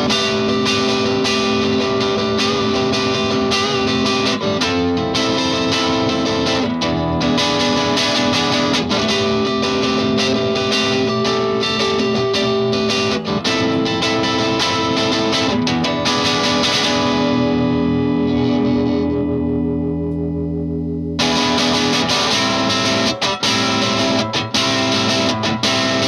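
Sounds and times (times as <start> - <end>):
distorted electric guitar riffs: 0.0 - 26.0.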